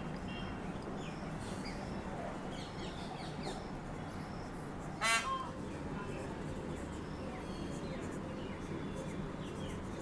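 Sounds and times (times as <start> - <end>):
faint birds chirping: 0.1 - 10.0.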